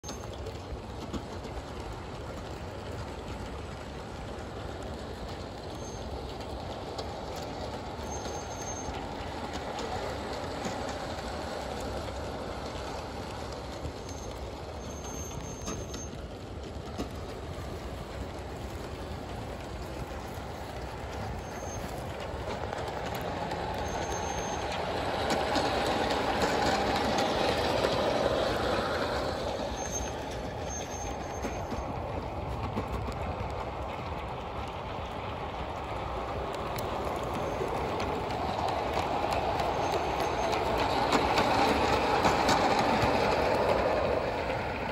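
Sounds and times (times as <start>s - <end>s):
model train rolling on rails: 0.0s - 44.9s.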